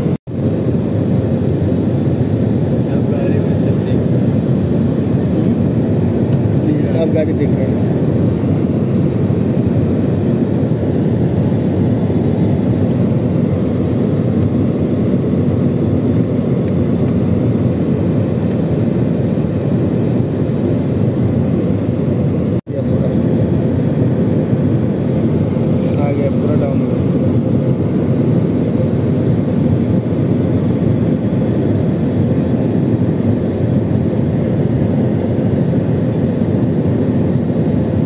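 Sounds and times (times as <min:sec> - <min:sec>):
jet cabin engine rumble: 0:00.0 - 0:38.0.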